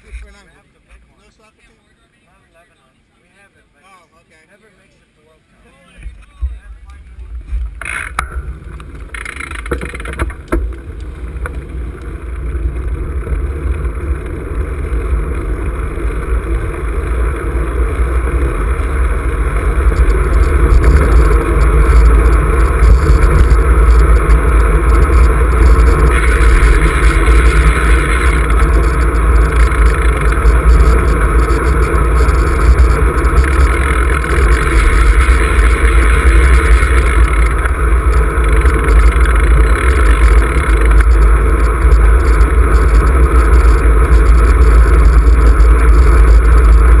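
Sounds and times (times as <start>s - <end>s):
wind rumbling on microphone: 5.9s - 47.0s.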